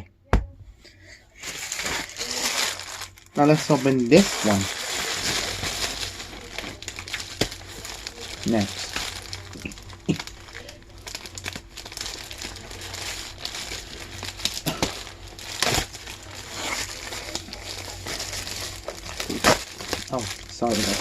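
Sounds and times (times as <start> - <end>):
packaging crinkling and rustling: 1.4 - 21.0.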